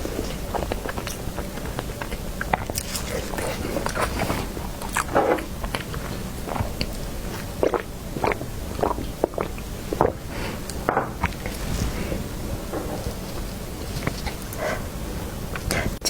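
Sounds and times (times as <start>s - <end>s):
person chewing cake: 0.0s - 16.0s.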